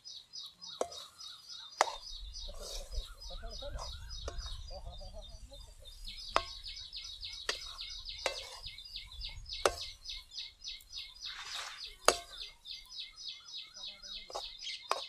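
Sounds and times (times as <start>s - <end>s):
birds chirping: 0.0s - 15.0s
spoon stirring thick mixture: 0.8s - 4.9s, 5.6s - 12.7s, 14.1s - 15.0s.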